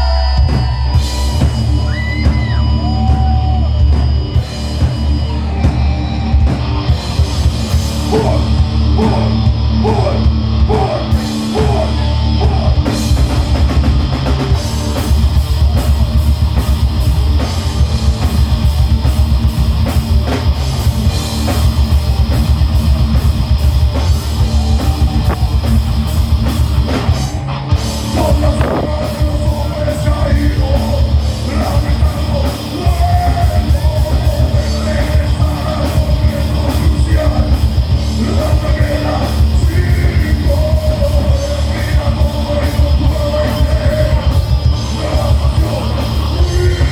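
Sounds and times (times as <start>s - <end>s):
heavy metal band playing live: 0.0s - 46.9s.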